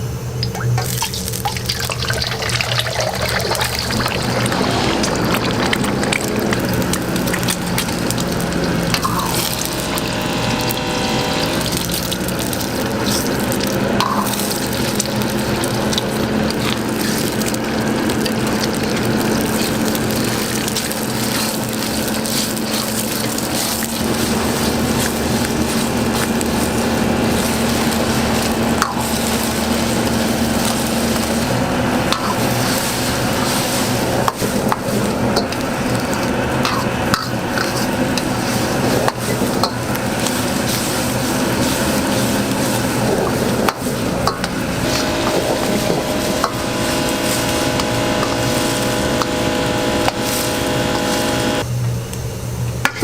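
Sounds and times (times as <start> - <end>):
steady hum: 0.0 - 53.0
rice sizzling in a pan: 0.5 - 51.6
utensil stirring and scraping: 0.8 - 51.6.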